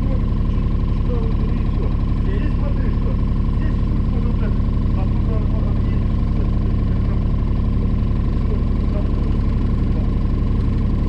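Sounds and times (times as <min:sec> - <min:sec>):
mini excavator engine running: 0:00.0 - 0:11.0.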